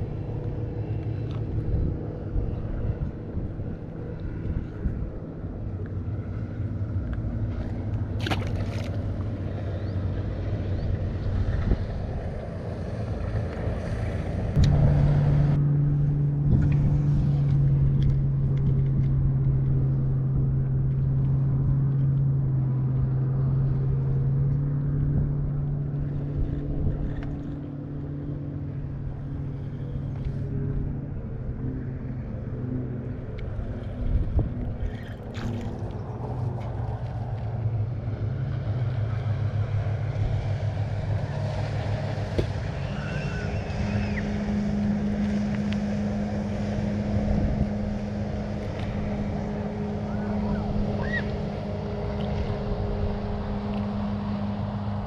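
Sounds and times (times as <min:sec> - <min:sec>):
water noise: 0:00.0 - 0:55.0
wind: 0:00.0 - 0:55.0.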